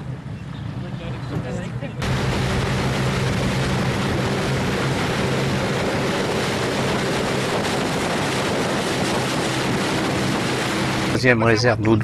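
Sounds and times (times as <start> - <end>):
water and air rushing: 0.0 - 11.4
motorboat engine humming: 0.0 - 11.7.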